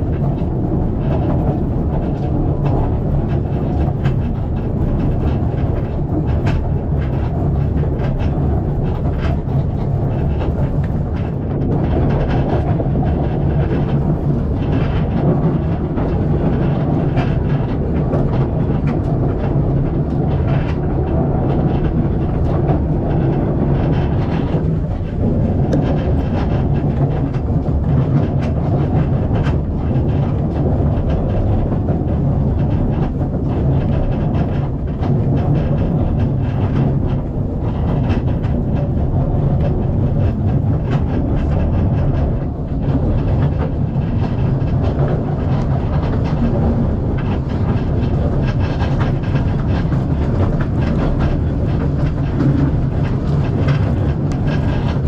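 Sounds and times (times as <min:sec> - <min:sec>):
train carriage rumbling on track: 0:00.0 - 0:55.0
wheels clicking and knocking: 0:00.0 - 0:55.0.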